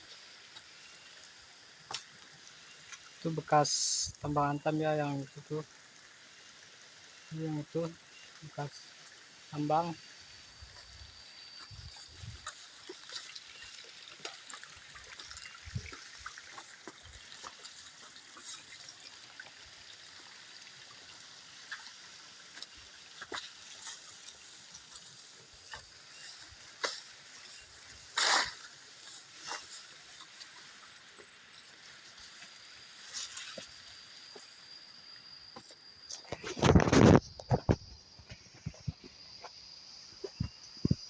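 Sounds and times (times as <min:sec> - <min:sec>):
water trickling over rocks: 0:00.0 - 0:41.0.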